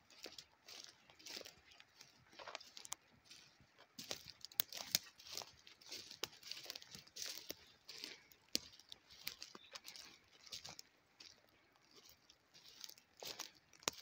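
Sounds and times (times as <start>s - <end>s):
footsteps crunching on dry needles: 0.0s - 14.0s
twigs snapping: 0.7s - 11.4s, 12.0s - 14.0s.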